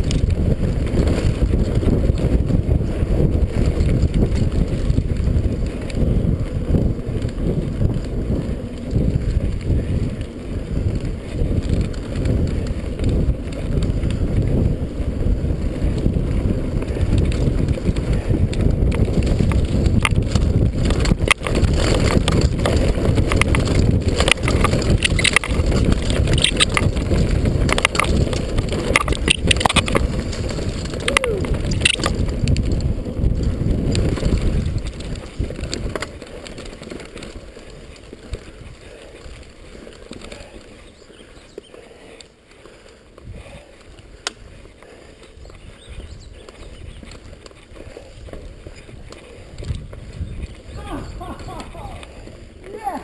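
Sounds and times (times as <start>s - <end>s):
wind on microphone: 0.0s - 42.2s, 43.2s - 53.0s
bike rattling and clicking: 0.0s - 53.0s
tyres on dirt: 0.0s - 53.0s.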